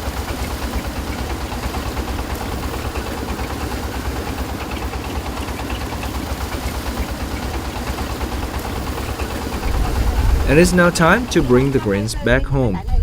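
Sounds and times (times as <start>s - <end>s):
threshing machine engine throbbing: 0.0s - 13.0s.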